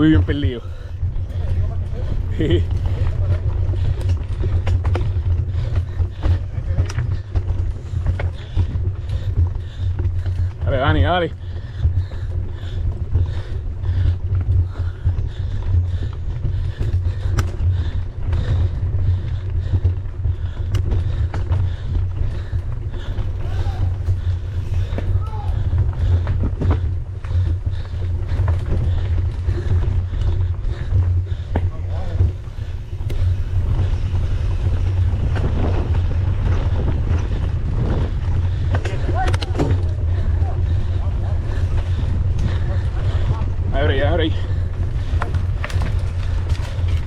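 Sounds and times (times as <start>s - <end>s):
bike tyre and trail noise: 0.0s - 47.0s
wind buffeting microphone: 0.0s - 47.0s.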